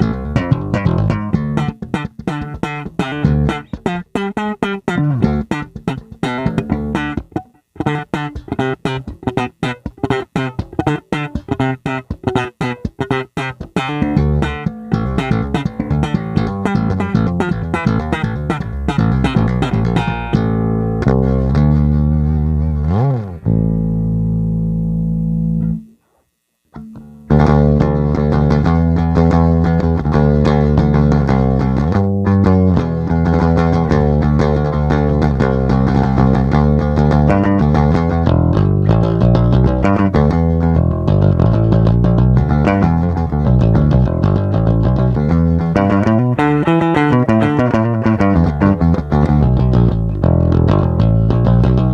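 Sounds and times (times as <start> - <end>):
electric bass plucked notes: 0.0 - 26.1, 26.7 - 51.9.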